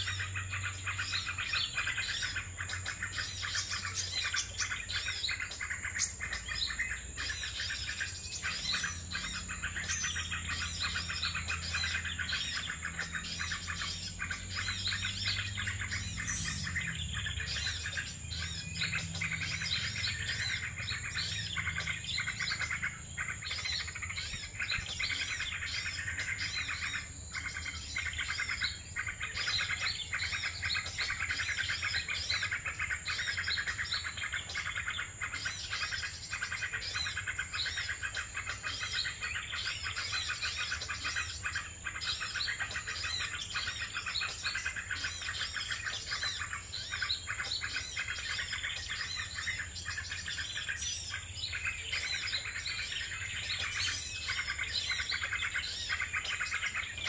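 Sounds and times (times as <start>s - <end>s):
many small birds chirping: 0.0s - 57.0s.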